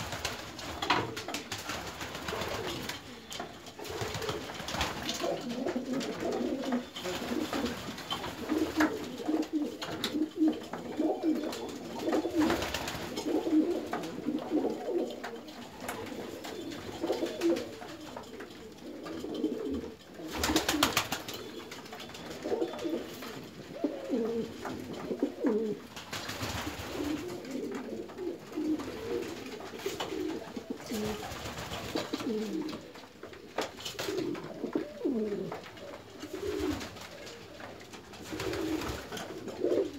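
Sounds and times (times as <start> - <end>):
pigeon wingbeats: 0.0 - 39.9
pigeons cooing: 0.0 - 39.9.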